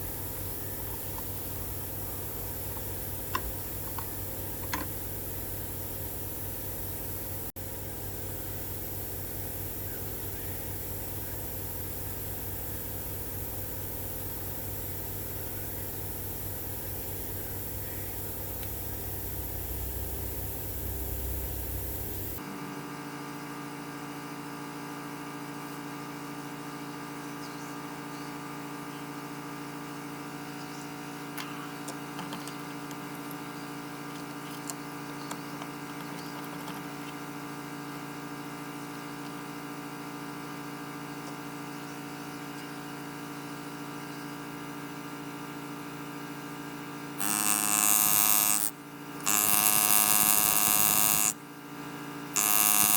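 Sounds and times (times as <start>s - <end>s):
steady electrical hum: 0.0s - 52.9s.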